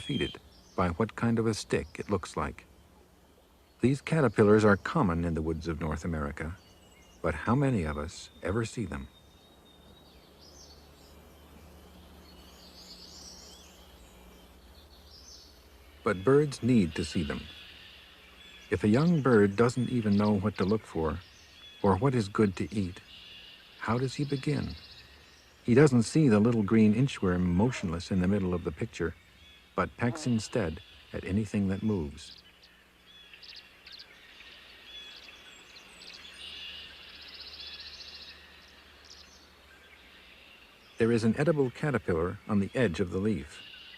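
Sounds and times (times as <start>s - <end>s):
distant bird chirps: 0.0s - 43.9s
low hum and hiss: 0.0s - 43.9s.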